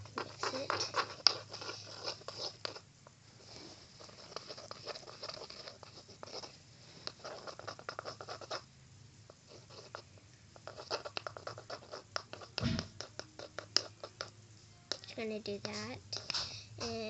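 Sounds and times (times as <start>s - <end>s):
utensil stirring sticky liquid: 0.0s - 17.0s.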